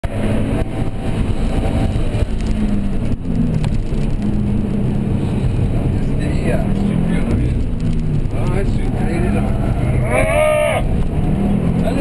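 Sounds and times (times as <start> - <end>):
car engine running hard: 0.0 - 12.0
road noise: 0.0 - 12.0.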